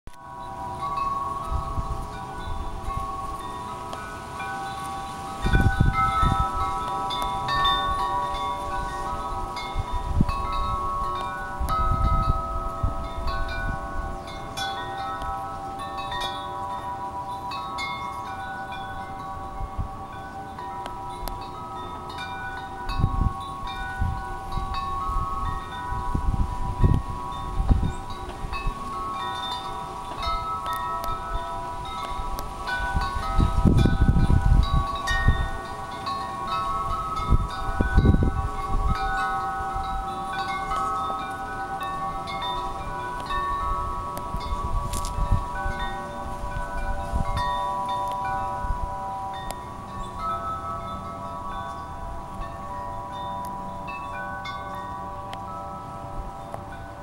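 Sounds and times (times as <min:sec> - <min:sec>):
wind chimes ringing: 0:00.1 - 0:57.0.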